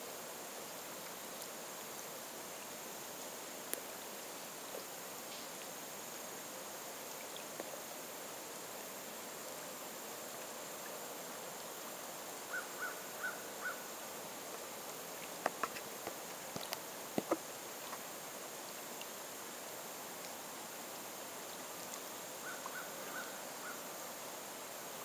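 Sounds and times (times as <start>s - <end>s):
steady outdoor hiss: 0.0s - 25.0s.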